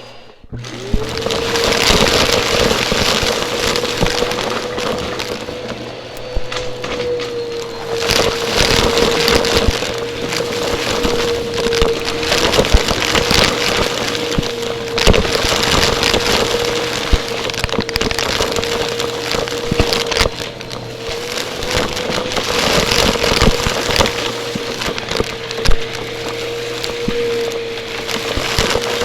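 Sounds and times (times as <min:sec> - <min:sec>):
vacuum cleaner running: 0:00.0 - 0:29.0
sharp clicks and crackles: 0:00.6 - 0:29.0.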